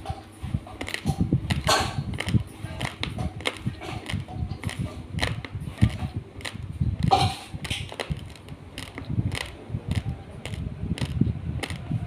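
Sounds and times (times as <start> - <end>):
dull chewing thuds: 0.0 - 12.0
rice grains crunching: 0.8 - 11.9.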